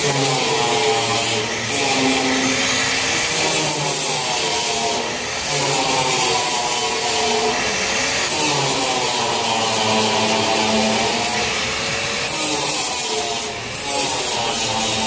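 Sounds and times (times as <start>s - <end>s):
angle grinder grinding metal: 0.0s - 15.0s.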